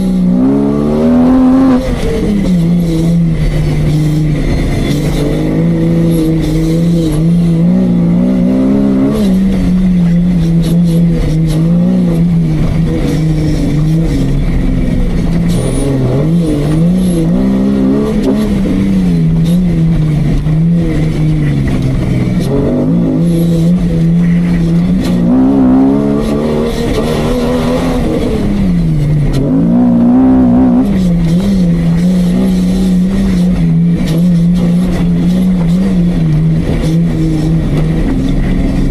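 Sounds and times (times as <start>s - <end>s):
jeep engine revving: 0.0s - 38.9s.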